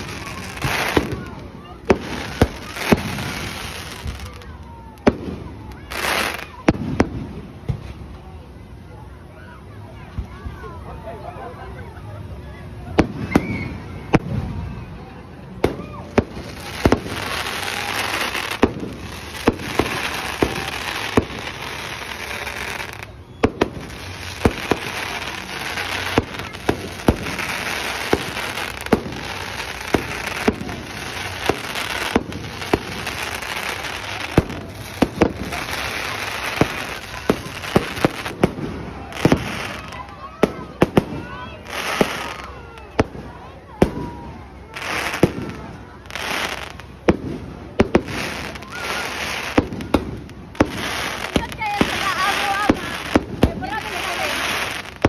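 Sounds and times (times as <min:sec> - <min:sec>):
firework crackling hiss: 0:00.0 - 0:08.1, 0:15.4 - 0:55.0.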